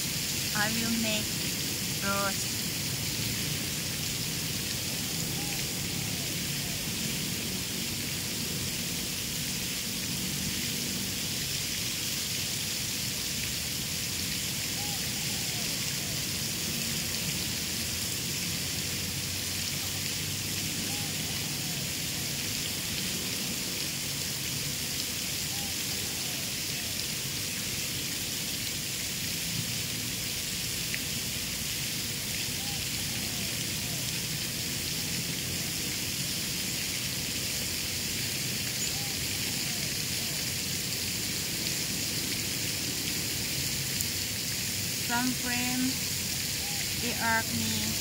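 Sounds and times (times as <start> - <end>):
water fountain splashing: 0.0 - 48.0.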